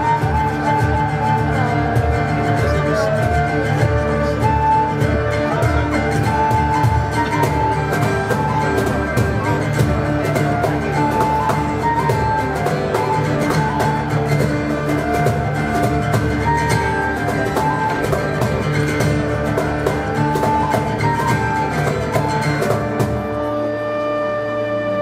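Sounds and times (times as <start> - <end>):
instrumental music with steady beat: 0.0 - 25.0.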